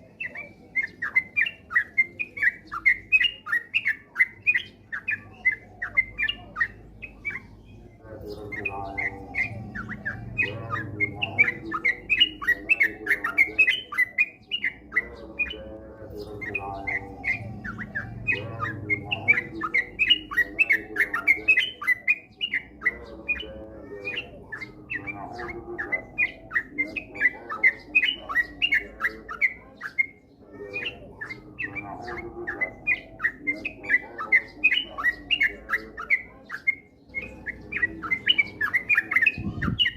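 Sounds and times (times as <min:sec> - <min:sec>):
bulbuls chirping: 0:00.0 - 0:39.9
low bird warbling: 0:00.0 - 0:39.9.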